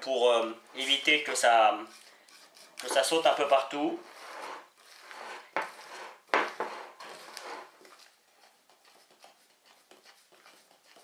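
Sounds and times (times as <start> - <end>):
spatula scraping batter in bowl: 0.8 - 11.0.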